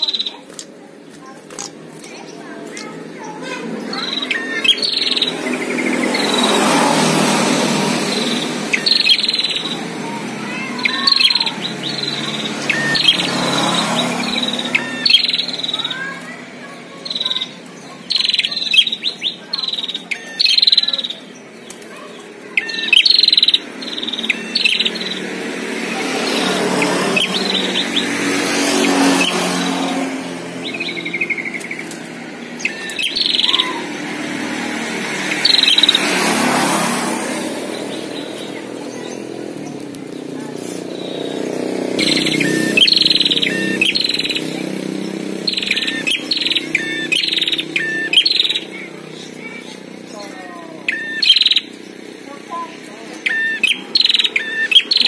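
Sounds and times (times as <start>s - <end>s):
bird trill: 0.0s - 0.7s, 1.5s - 55.0s
birds chirping sharply: 0.0s - 55.0s.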